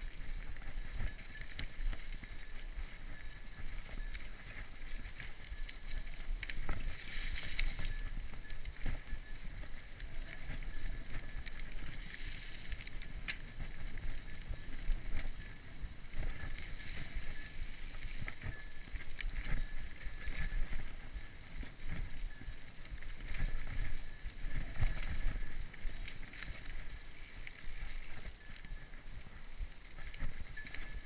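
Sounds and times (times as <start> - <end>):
bike tyres rumbling on dirt: 0.0 - 31.0
bike knocking and rattling: 0.1 - 31.0.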